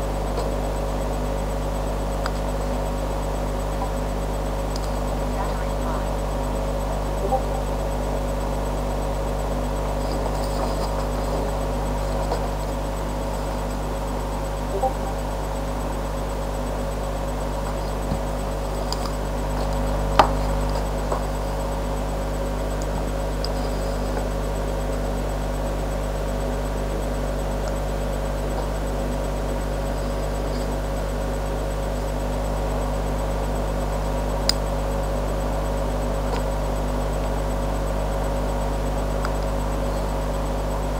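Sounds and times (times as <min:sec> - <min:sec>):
low electrical hum with hiss: 0:00.0 - 0:35.0.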